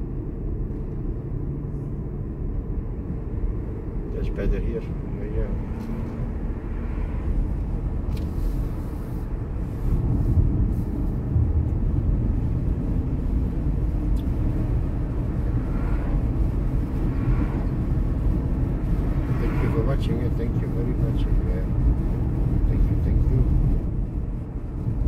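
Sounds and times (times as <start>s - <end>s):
car driving rumble from inside: 0.0s - 25.0s.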